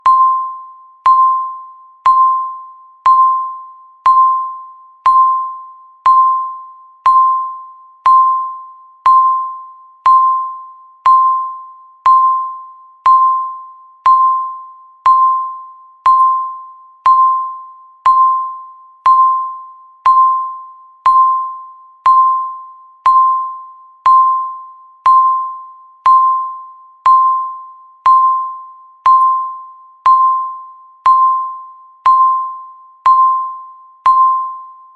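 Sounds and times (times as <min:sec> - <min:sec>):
timer electronic ping: 0:00.0 - 0:34.9.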